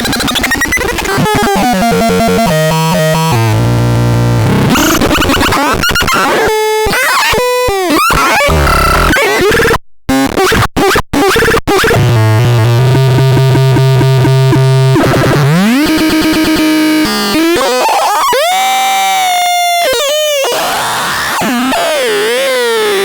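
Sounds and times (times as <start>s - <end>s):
harsh synthesized tones and noise: 0.0s - 23.0s.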